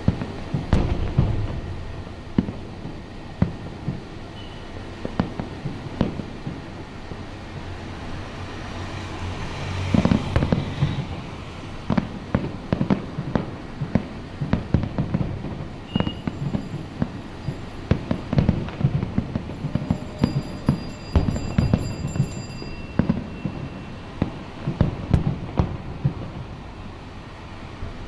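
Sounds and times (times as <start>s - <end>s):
fireworks bangs and pops: 0.0s - 8.8s, 9.5s - 28.0s.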